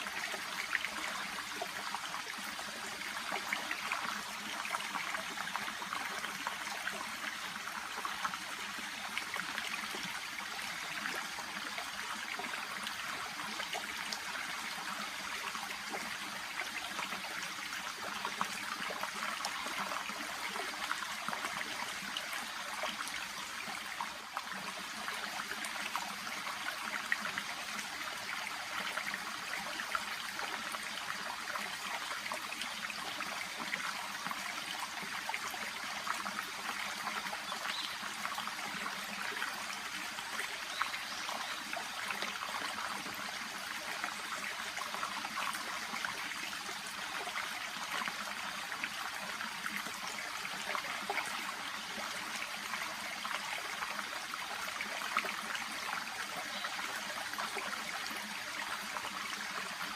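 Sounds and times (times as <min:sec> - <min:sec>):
babbling brook: 0:00.0 - 0:59.9.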